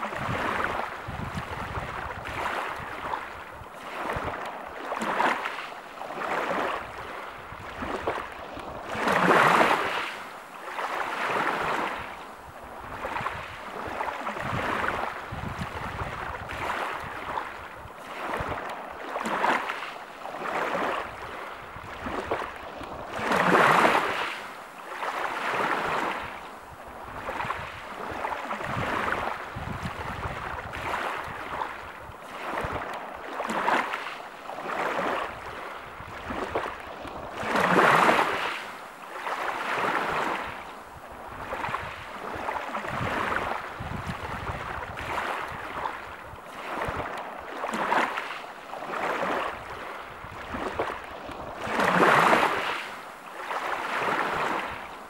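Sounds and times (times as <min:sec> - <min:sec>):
large waves breaking: 0:00.0 - 0:55.0
ocean waves washing in: 0:00.0 - 0:55.0.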